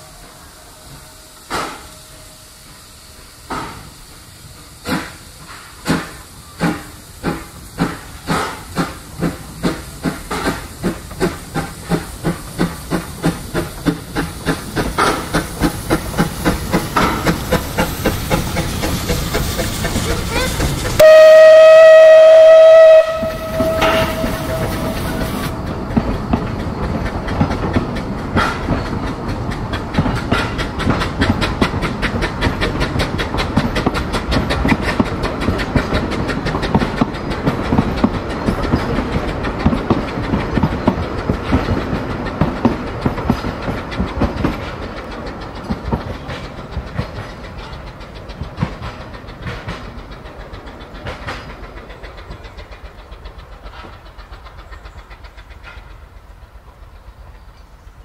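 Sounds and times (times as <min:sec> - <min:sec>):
steam train running past: 0:00.0 - 0:58.0
train wheels clattering: 0:00.8 - 0:02.0, 0:02.6 - 0:58.0.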